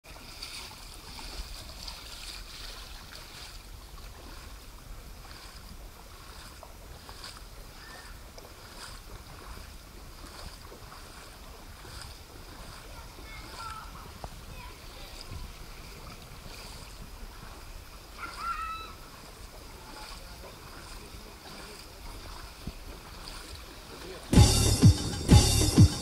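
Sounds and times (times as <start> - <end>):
feet splashing through water: 0.0 - 24.6.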